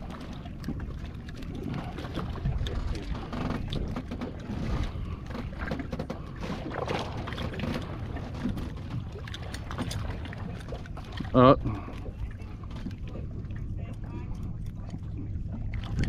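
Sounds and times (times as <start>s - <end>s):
knocks and splashes on hull: 0.0s - 16.0s
wind and water rumble: 0.0s - 16.0s.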